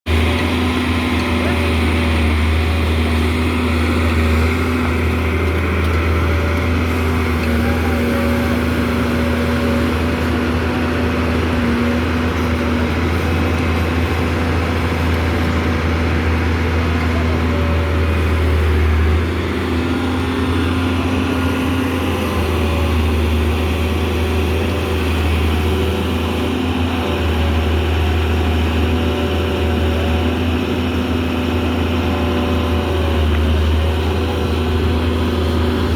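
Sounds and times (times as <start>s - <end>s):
excavator diesel engine running: 0.1s - 35.9s.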